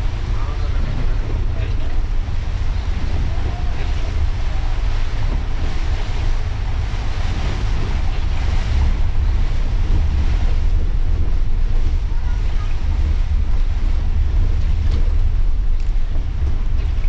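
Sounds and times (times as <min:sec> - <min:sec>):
bus driving at speed: 0:00.0 - 0:17.0
rain and tyre spray on road: 0:00.0 - 0:17.0.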